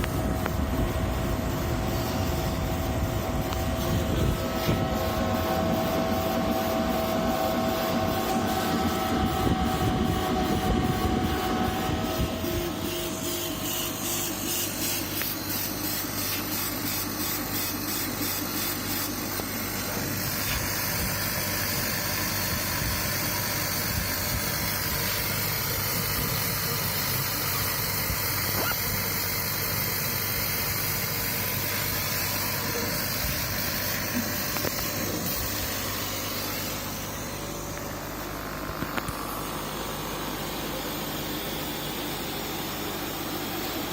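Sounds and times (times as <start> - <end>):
laser head drive whirring: 0.0 - 43.9
machine fans hiss and hum: 0.0 - 43.9.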